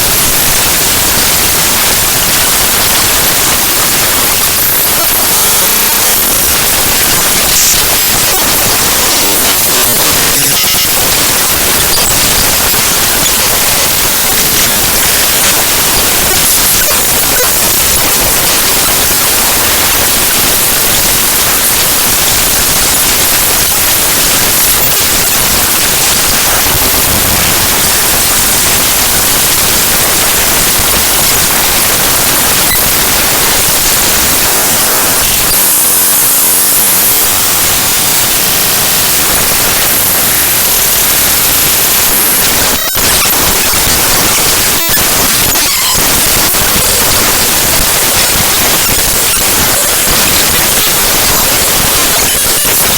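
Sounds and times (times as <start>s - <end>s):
dense static-like noise: 0.0s - 52.9s.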